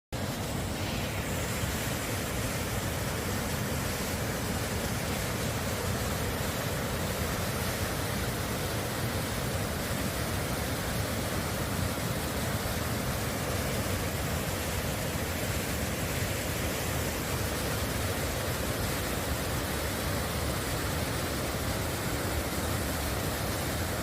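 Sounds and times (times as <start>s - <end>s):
waterfall rushing: 0.2s - 24.0s.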